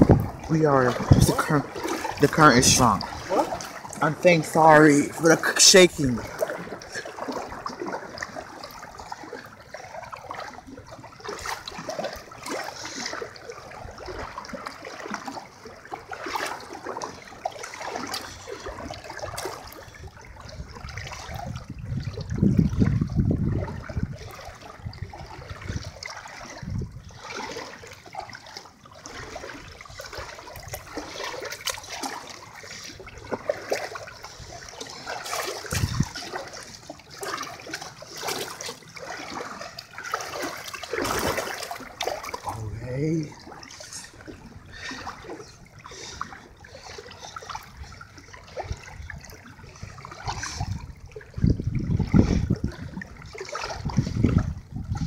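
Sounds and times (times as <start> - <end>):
deep rush of water: 0.0 - 55.0
floodwater sloshing and splashing: 0.0 - 55.0.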